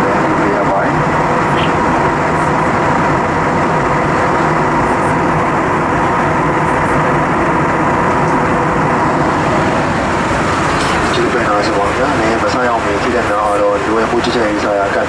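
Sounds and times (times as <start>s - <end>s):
airliner engines and airflow rush: 0.0s - 15.0s.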